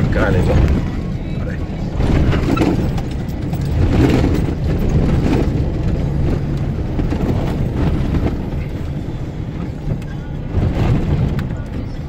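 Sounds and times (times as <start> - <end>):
cab rumbling on bumpy track: 0.0 - 12.0
vehicle engine running: 0.0 - 12.0.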